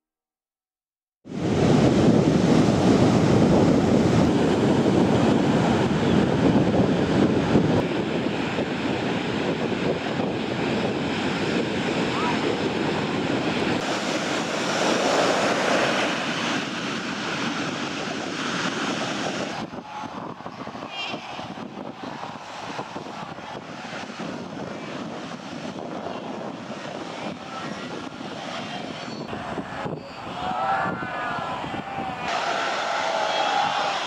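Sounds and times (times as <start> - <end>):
ocean surf breaking: 1.3 - 34.0.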